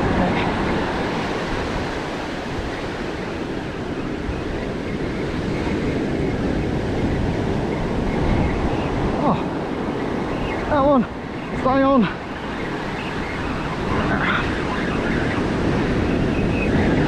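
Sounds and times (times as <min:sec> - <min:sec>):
surf washing up beach: 0:00.0 - 0:17.0
wind buffeting microphone: 0:00.0 - 0:17.0.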